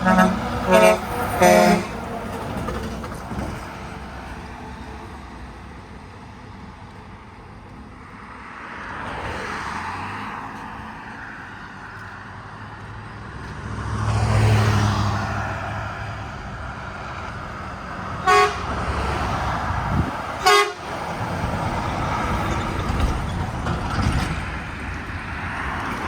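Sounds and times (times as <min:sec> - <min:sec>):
vehicles passing by: 0:00.0 - 0:26.0.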